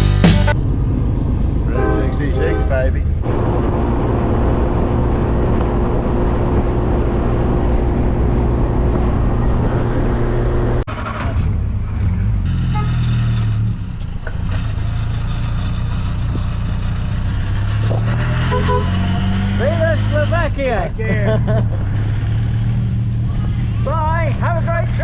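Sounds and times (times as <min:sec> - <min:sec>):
low engine hum: 0:00.0 - 0:24.5
car engine and road noise: 0:00.0 - 0:25.0.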